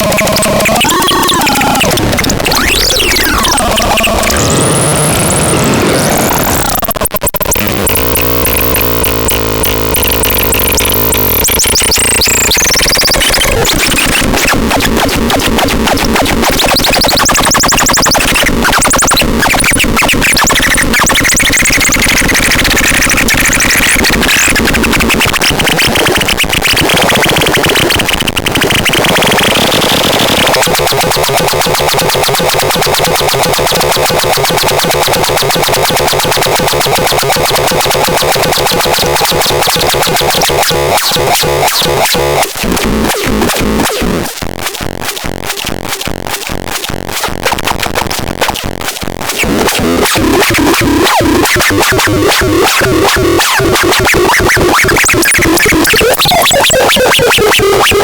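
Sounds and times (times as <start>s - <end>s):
harsh synthesizer noise: 0.0s - 58.0s.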